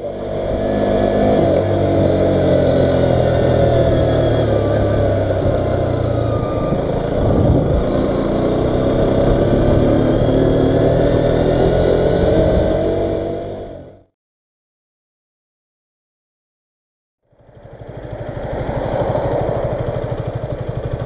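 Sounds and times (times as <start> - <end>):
motorcycle engine running: 0.0 - 14.1, 17.2 - 21.0.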